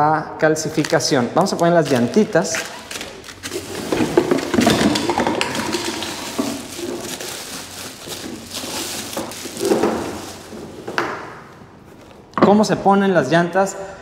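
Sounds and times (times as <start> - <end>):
plastic bag rustling: 0.6 - 12.3.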